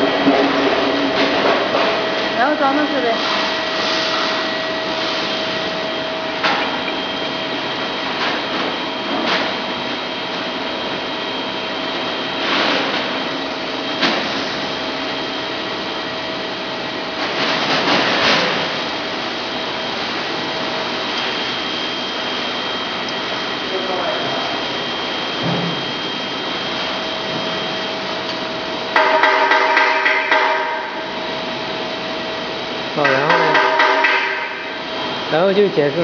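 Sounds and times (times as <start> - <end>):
machinery humming: 0.0 - 36.0.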